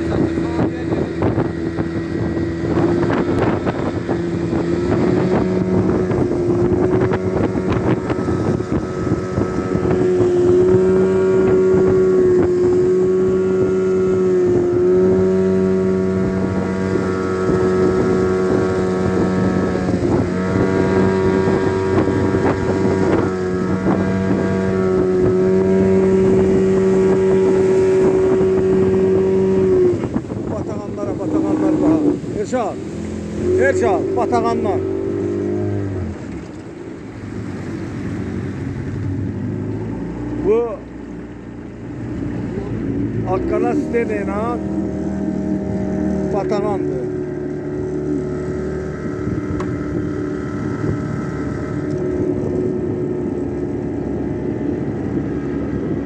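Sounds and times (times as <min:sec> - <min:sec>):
boat motor running: 0:00.0 - 0:56.0.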